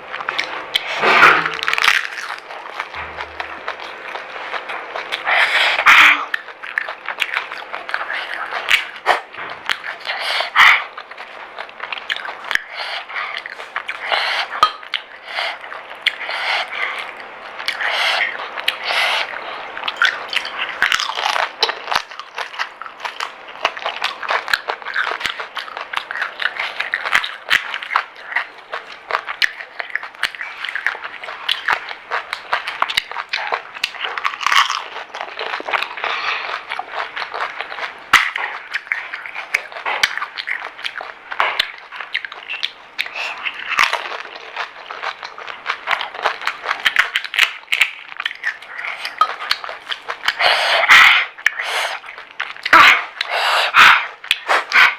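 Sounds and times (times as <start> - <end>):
crisp food crunching and chewing: 0.0 - 54.9.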